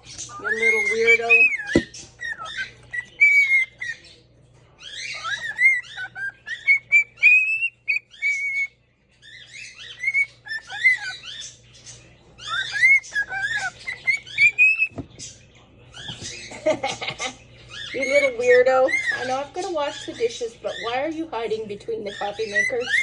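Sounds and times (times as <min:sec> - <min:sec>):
parrot whistling and chirping: 0:00.0 - 0:15.0, 0:17.6 - 0:21.0, 0:22.0 - 0:23.0.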